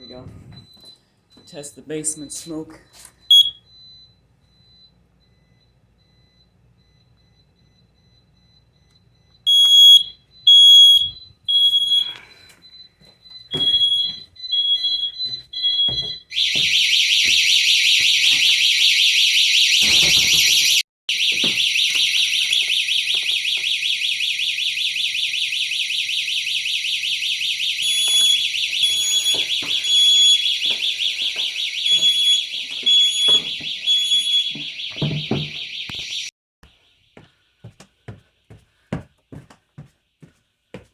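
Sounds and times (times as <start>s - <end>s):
alarm siren rapidly pulsing: 3.3s - 36.3s.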